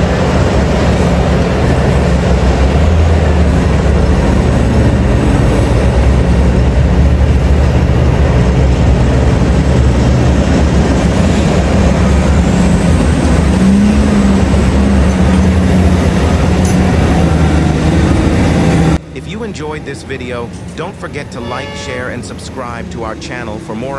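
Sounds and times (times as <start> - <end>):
heavy diesel engine drone: 0.0 - 23.9.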